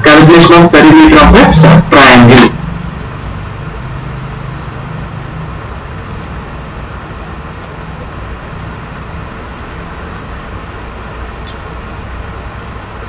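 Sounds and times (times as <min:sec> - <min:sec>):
room noise with low hum: 0:00.0 - 0:13.0.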